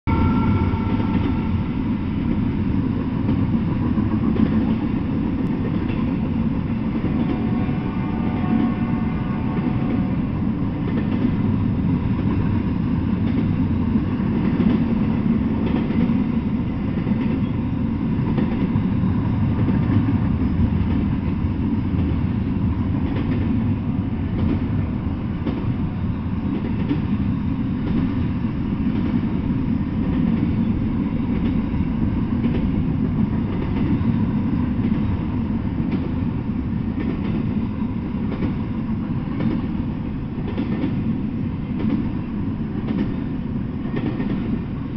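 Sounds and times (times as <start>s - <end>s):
freight train wheels rumbling: 0.0s - 44.9s.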